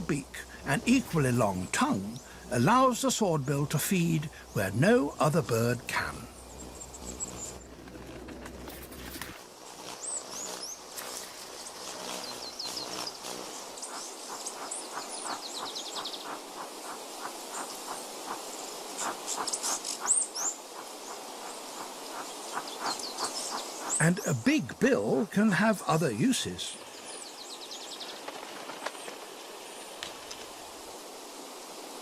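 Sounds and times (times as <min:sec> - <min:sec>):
birds chirping: 0:00.0 - 0:07.8, 0:09.8 - 0:30.3
insects buzzing: 0:00.0 - 0:32.0.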